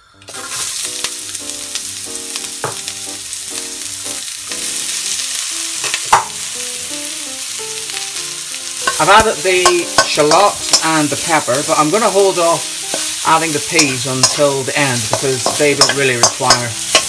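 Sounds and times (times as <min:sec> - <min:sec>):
vegetables sizzling in hot oil: 0:00.0 - 0:17.0
sharp crackle: 0:00.2 - 0:17.0.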